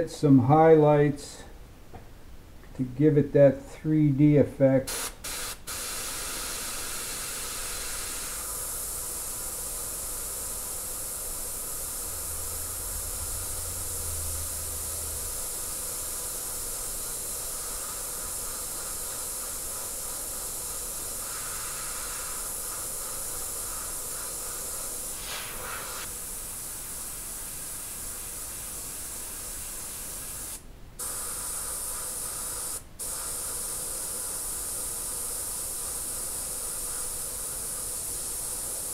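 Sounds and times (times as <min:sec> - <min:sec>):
airbrush hissing: 0:04.9 - 0:38.9.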